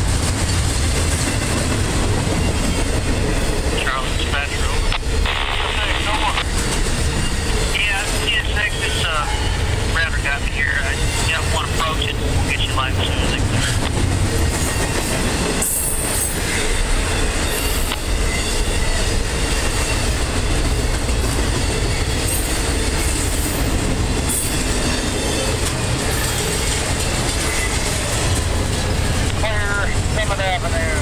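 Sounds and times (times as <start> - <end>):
steel train wheels on rail: 0.0 - 31.0.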